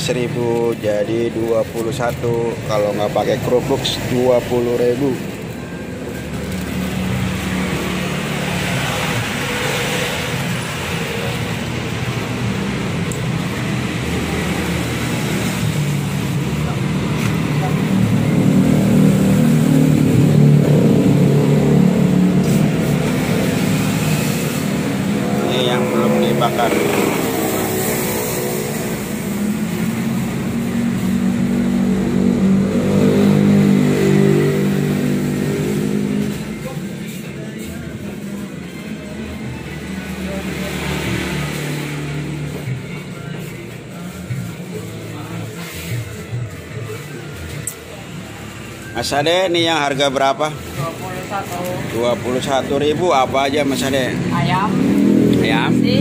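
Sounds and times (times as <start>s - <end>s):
road traffic noise: 0.0s - 56.0s.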